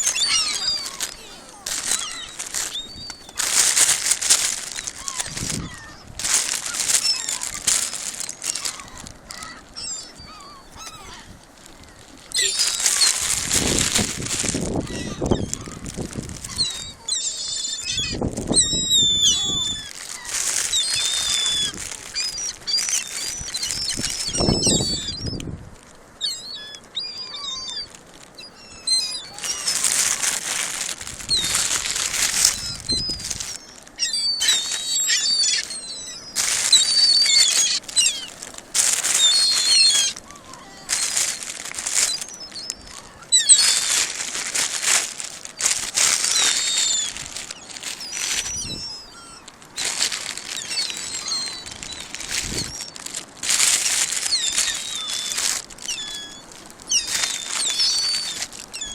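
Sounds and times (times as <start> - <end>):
gulls crying: 0.0 - 58.9
gulls flapping wings: 0.0 - 58.9.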